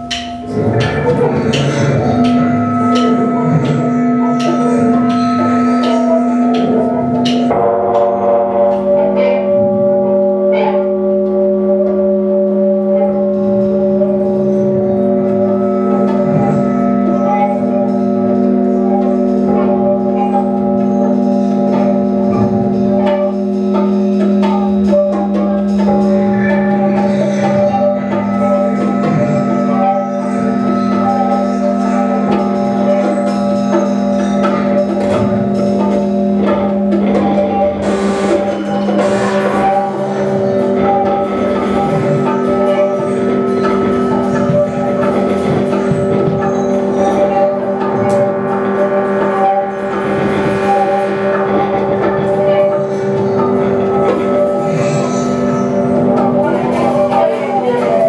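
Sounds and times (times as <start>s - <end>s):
droning instrumental band music: 0.0s - 58.0s.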